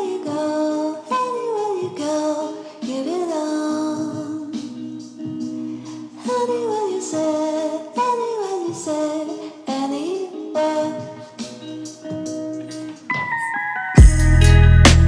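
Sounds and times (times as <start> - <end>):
music with sung vocal melody: 0.0 - 15.0.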